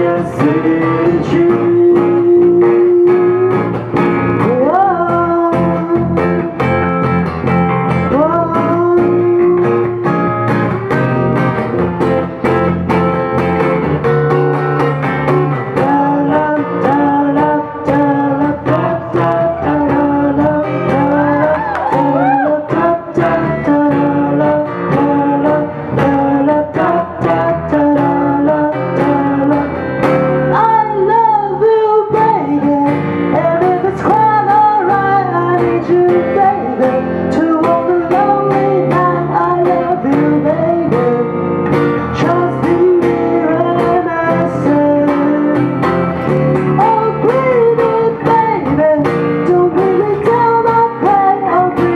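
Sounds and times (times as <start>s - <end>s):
person singing slow song: 0.0s - 11.5s, 15.4s - 51.9s
acoustic guitar plucked and strummed: 0.0s - 51.9s.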